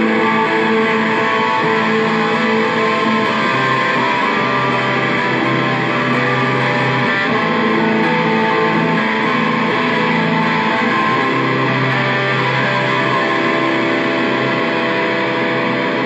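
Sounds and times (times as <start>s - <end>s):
electric bass through effects: 0.0s - 16.0s.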